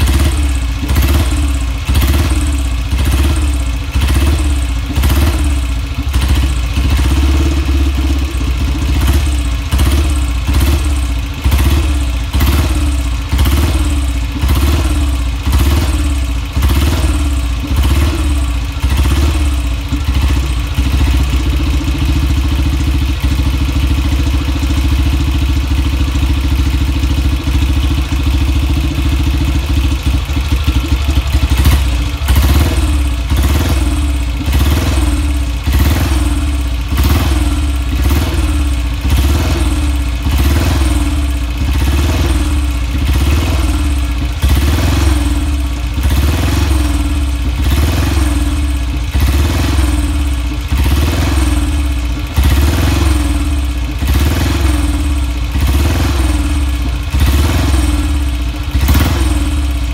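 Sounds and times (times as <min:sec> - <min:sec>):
motorcycle engine surging: 0:00.0 - 0:59.9.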